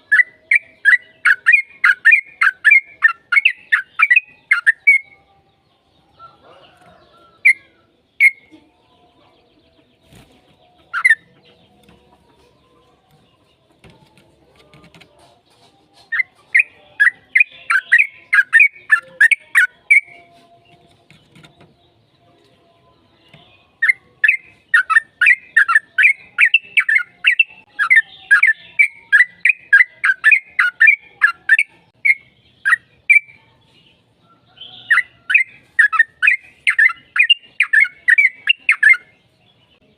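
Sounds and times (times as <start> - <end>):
bird singing: 0.0 - 14.9, 16.0 - 39.9.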